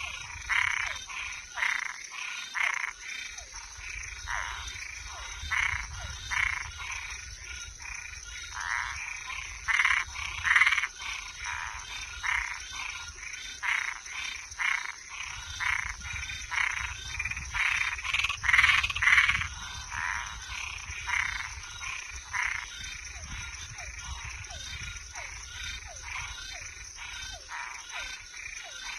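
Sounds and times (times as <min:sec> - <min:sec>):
frogs croaking: 0:00.0 - 0:28.9.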